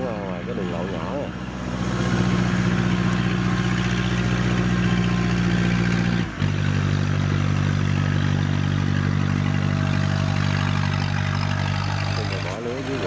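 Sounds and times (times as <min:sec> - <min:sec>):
farm machine engine running: 0:00.0 - 0:13.0.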